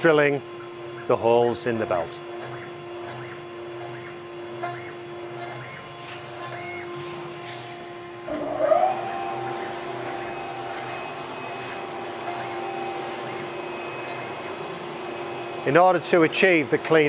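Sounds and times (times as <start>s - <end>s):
drilling machine whining hum: 0.0s - 17.0s.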